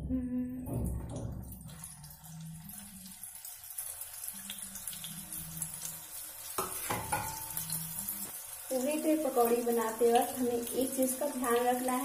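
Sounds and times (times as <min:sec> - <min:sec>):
food sizzling in hot oil: 0:01.7 - 0:12.0.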